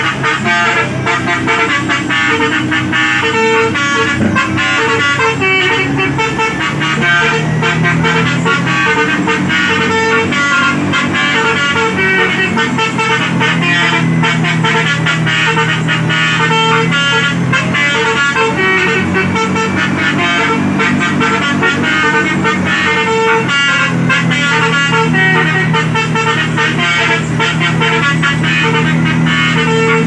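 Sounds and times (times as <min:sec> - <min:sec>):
multi-tone bus horn tune: 0:00.0 - 0:30.0.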